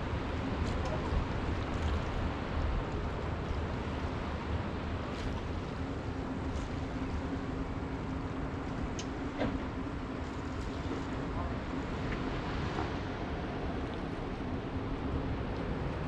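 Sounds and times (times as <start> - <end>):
faint motor-like hum: 0.0 - 16.0
ocean surf: 0.0 - 16.0
wind: 0.0 - 16.0.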